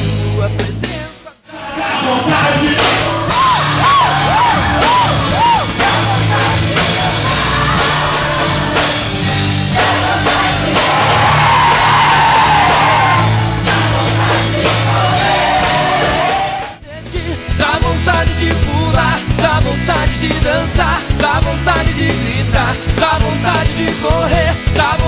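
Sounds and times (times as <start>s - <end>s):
rock worship song: 0.0s - 25.0s.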